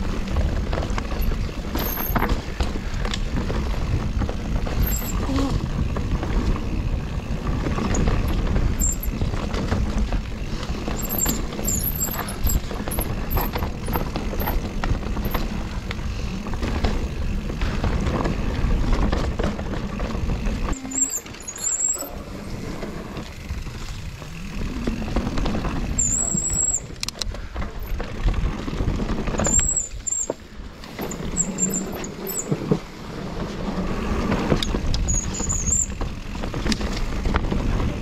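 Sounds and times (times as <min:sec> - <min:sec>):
bike rattling over bumps: 0:00.0 - 0:38.0
brakes squealing: 0:00.0 - 0:38.0
tyres rumbling on dirt: 0:00.0 - 0:38.0.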